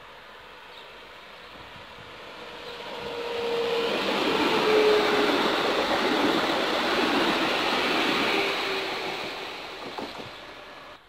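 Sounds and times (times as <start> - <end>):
faint train hum: 0.0 - 11.0
train wheels rushing on rail: 0.1 - 11.0.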